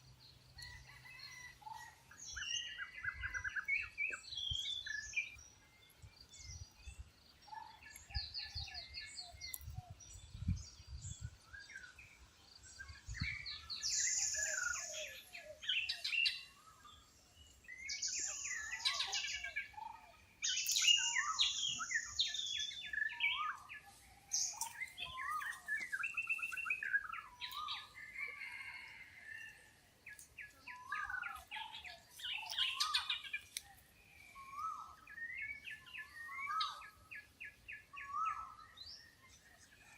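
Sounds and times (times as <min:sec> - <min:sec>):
birds calling and chirping: 0:00.0 - 0:39.9.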